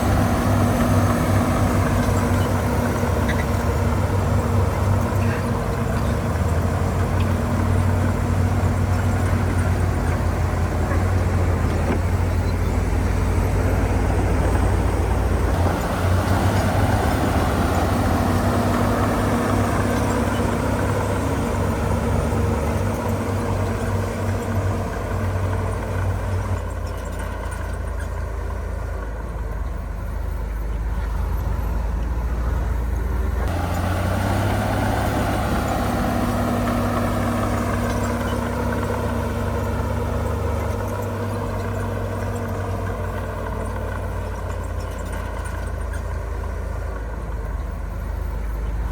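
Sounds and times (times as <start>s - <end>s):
heavy diesel engine revving: 0.0s - 26.6s, 30.5s - 48.9s.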